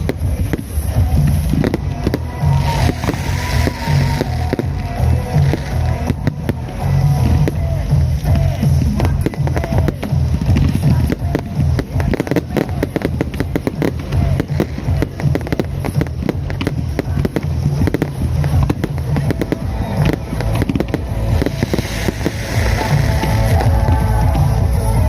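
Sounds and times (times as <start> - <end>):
fireworks crackling and banging: 0.0 - 25.0
heavy low rumble: 0.0 - 25.0.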